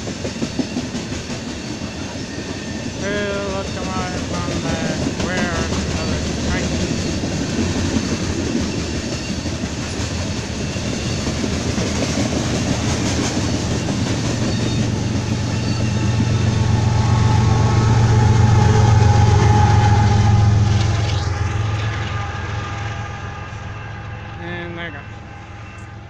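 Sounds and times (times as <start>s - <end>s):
diesel locomotive engines droning: 0.0s - 26.0s
freight train rolling on rails: 0.0s - 26.0s.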